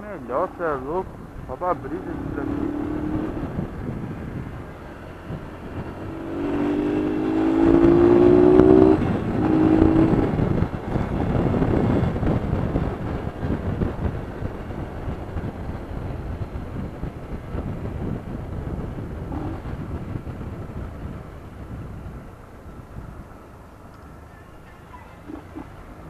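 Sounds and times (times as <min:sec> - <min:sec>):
motorcycle engine accelerating: 0:00.0 - 0:23.7
wind and road noise: 0:00.0 - 0:26.0.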